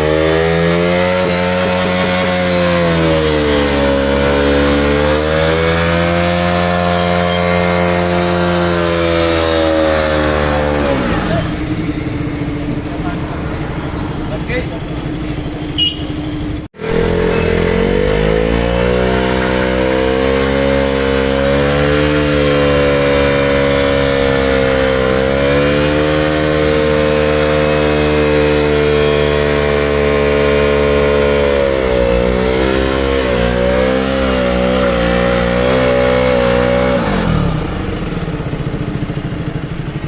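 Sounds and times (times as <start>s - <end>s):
motorcycle engine revving high: 0.0s - 40.0s.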